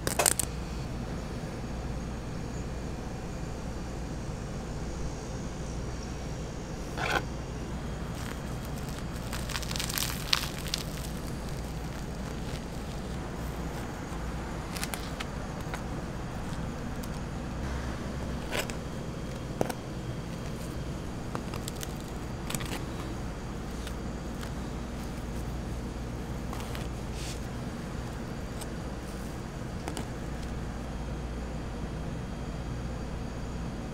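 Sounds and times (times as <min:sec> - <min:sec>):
low background hum: 0:00.0 - 0:33.9.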